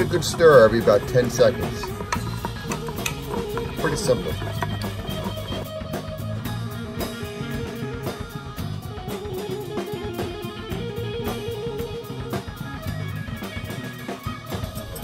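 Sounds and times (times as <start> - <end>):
guitar over drum beat: 0.0 - 15.0.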